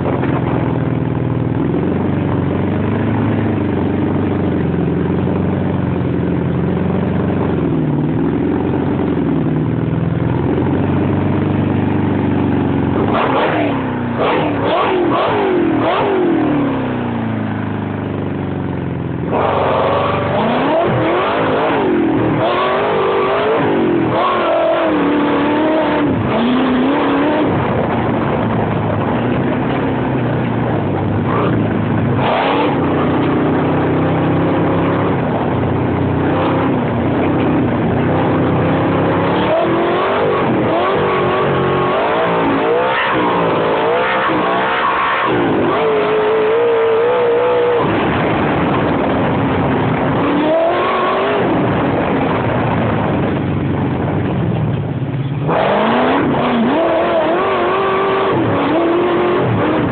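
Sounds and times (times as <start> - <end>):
engine revving: 6.7 - 18.1, 19.0 - 54.6, 55.3 - 59.9.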